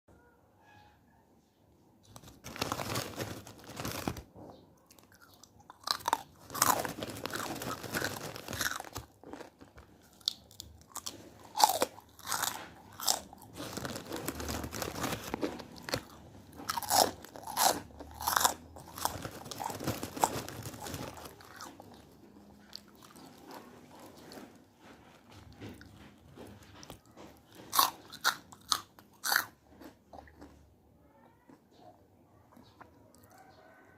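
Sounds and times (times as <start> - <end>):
crunchy snack chewing: 2.0 - 30.7.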